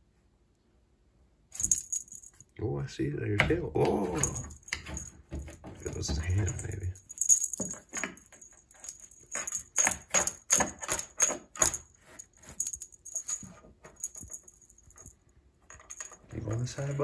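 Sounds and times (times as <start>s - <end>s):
cat toy bell jingling: 1.6s - 2.4s, 4.0s - 17.0s.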